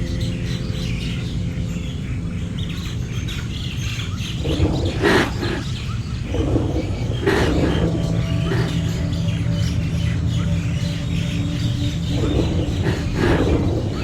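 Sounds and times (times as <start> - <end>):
birds chirping and calling: 0.0 - 14.0
low background rumble: 0.0 - 14.0.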